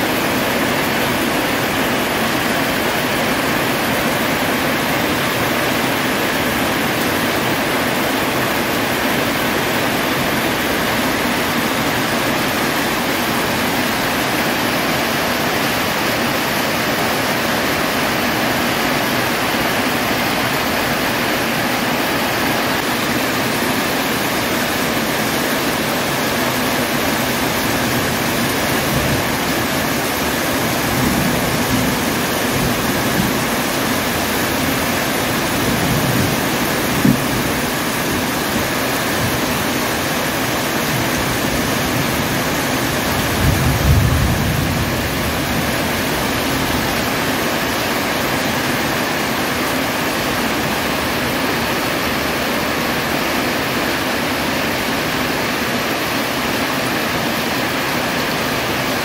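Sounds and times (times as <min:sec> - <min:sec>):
heavy rain on metal roof: 0:00.0 - 0:59.0.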